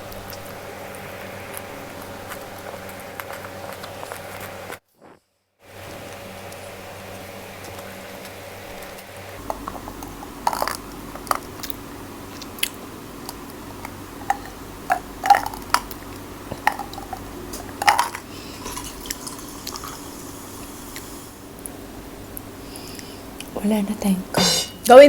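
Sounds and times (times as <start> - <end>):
person chewing food: 0.0 - 5.2, 5.9 - 21.7
steady low hum: 0.0 - 25.0.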